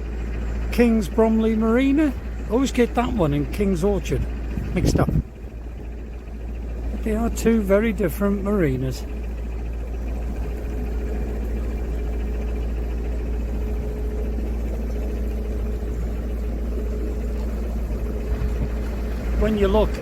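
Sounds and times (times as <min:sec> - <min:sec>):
boat engine droning: 0:00.0 - 0:20.0
faint steady hum: 0:00.0 - 0:20.0.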